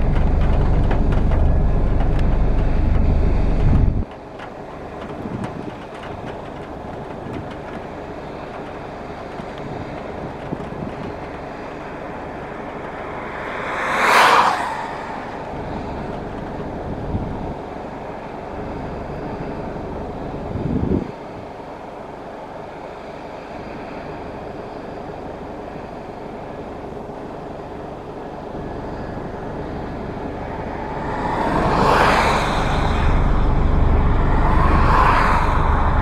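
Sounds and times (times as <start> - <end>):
combine harvester running: 0.0 - 36.0.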